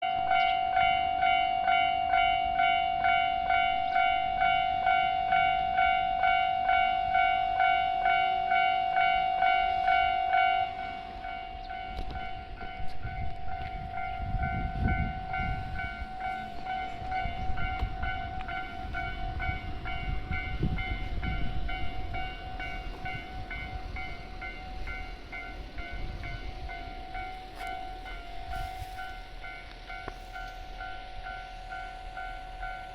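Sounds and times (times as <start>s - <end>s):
level crossing bell clanging: 0.0s - 32.9s
train rumbling over crossing: 0.0s - 32.9s.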